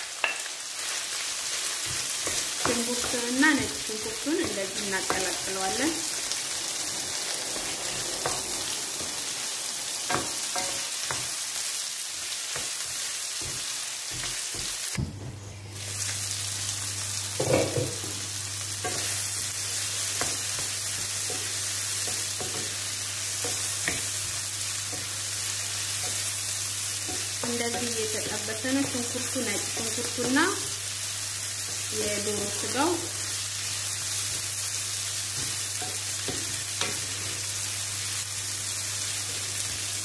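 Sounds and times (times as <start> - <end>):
food sizzling in a frying pan: 0.0 - 40.0.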